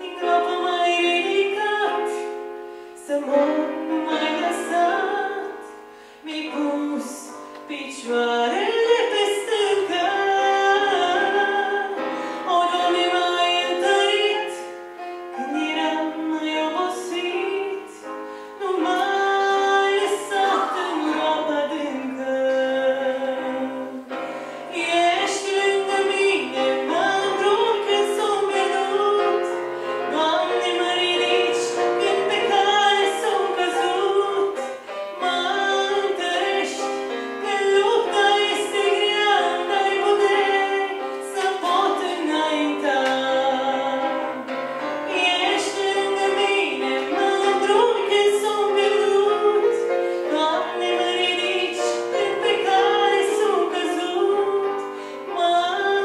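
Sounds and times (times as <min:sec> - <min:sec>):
instrumental accompaniment: 0:00.0 - 0:56.0
woman singing into microphone: 0:00.0 - 0:56.0.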